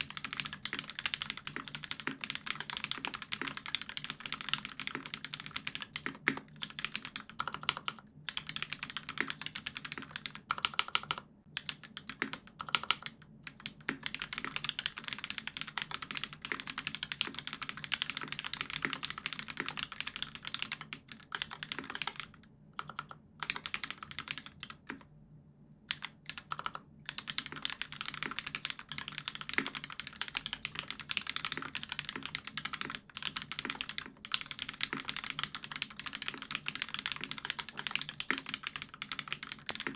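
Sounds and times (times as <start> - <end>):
mechanical keyboard typing: 0.0 - 25.1, 25.9 - 39.9.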